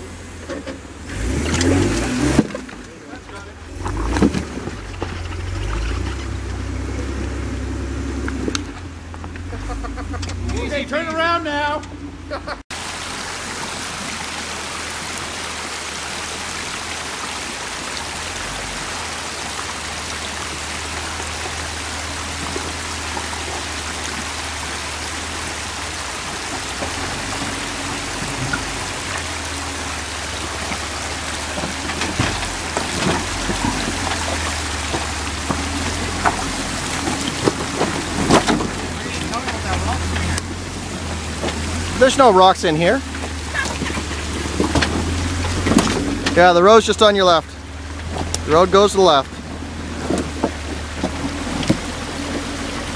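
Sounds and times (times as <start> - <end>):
car engine running low: 0.0 - 52.9
creek water rushing over rocks: 0.0 - 52.9
tyres knocking over rocks: 0.4 - 7.3, 15.3 - 52.9.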